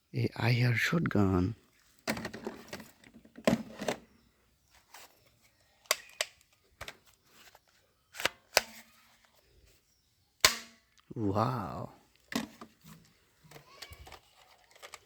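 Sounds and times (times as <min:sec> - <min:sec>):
objects being handled: 0:01.7 - 0:11.1, 0:12.0 - 0:15.0.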